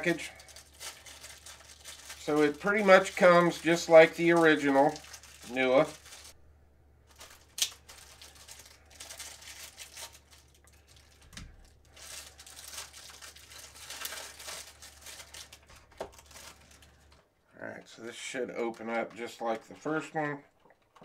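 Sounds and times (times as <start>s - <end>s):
plastic bag crinkling: 0.0s - 6.4s, 7.0s - 21.0s.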